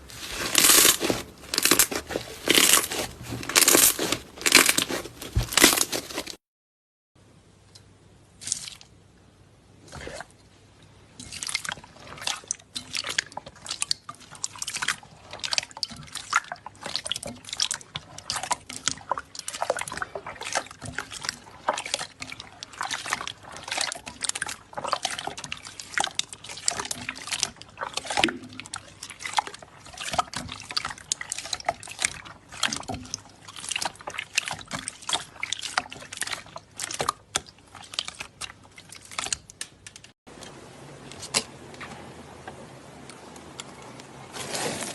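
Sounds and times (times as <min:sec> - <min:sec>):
slime squelching: 0:00.0 - 0:06.4, 0:08.4 - 0:09.0, 0:09.8 - 0:10.4, 0:11.2 - 0:40.2.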